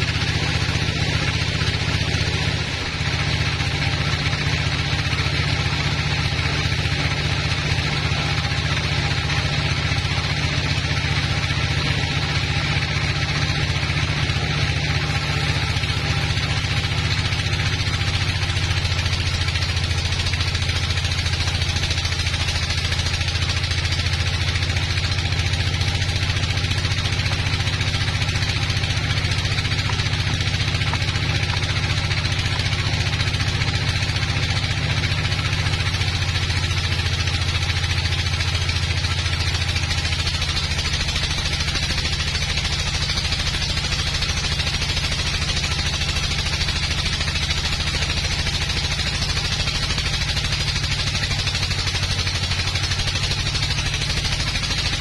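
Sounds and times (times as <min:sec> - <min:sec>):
sawmill machine drone: 0:00.0 - 0:55.0.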